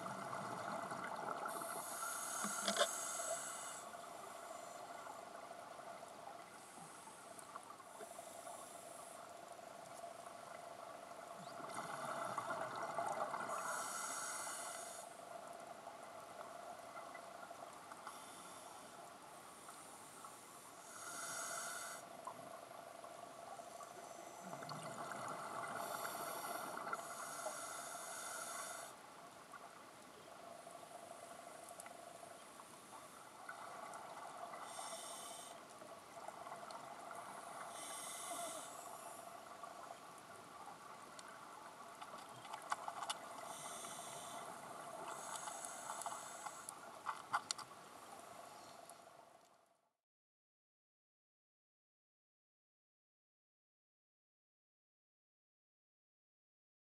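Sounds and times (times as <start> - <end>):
steady hiss: 0.0 - 49.1.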